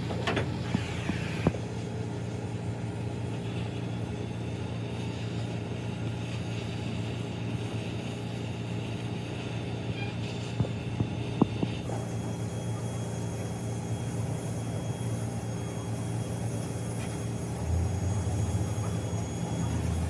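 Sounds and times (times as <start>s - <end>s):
motor humming: 3.3s - 20.0s.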